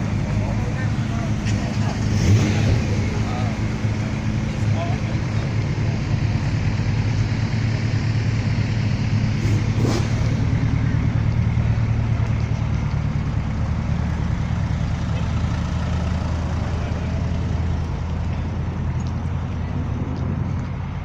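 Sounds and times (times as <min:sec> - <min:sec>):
car engine idling low: 0:00.0 - 0:21.0.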